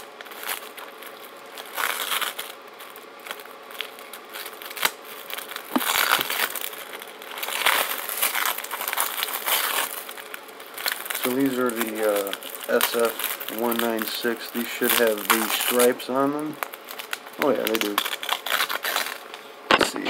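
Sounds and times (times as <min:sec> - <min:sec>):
plastic wrap crinkling and tearing: 0:00.0 - 0:20.0.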